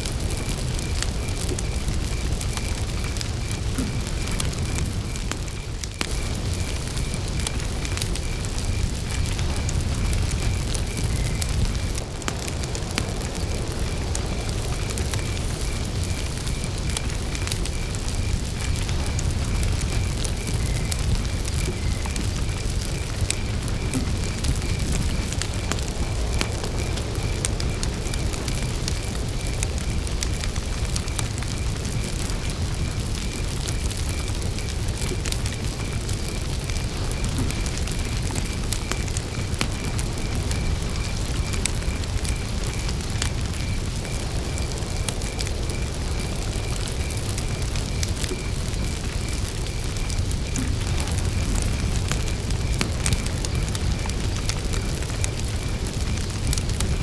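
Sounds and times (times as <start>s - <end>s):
campfire crackling and popping: 0.0s - 57.0s
cricket chirping: 0.0s - 57.0s.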